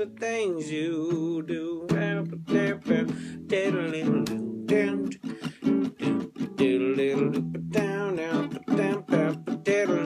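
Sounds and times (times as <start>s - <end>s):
acoustic guitar strumming: 0.0s - 10.0s
man singing: 0.0s - 10.0s.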